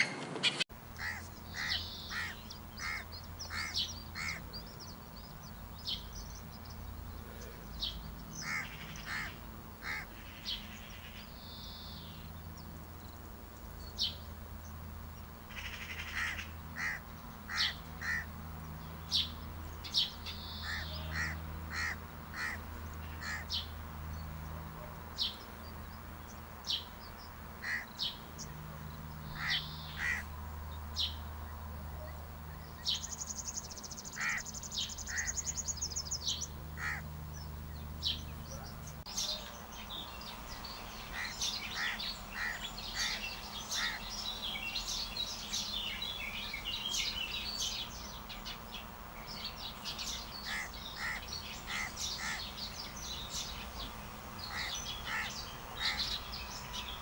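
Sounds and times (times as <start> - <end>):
bird trill: 0.0 - 12.8, 13.6 - 30.3, 32.0 - 57.0
small birds chirping: 0.0 - 57.0.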